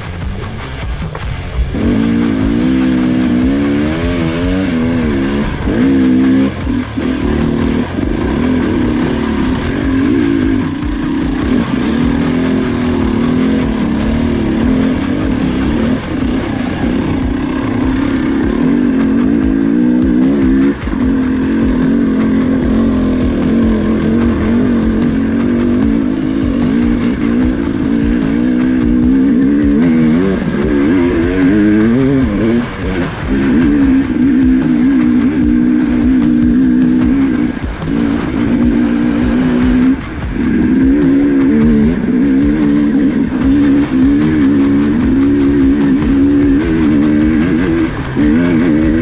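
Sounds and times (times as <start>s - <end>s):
dirt bike engine revving: 0.0s - 49.0s
music playing: 0.0s - 49.0s.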